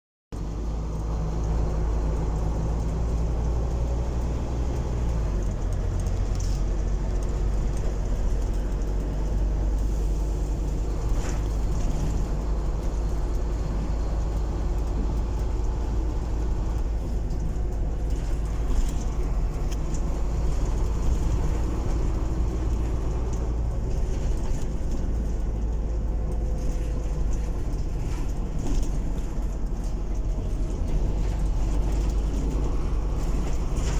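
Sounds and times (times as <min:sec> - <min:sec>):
bus engine rumble: 0:00.3 - 0:33.9
road noise: 0:00.3 - 0:33.9
rattles and clicks: 0:00.4 - 0:33.9.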